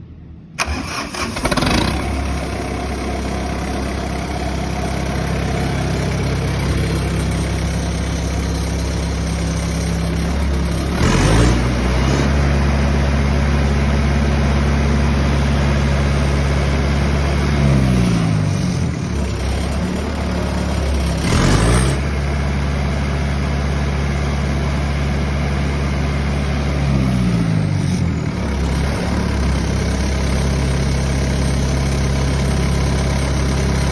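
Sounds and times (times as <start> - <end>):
diesel engine starting and running: 0.0 - 33.9.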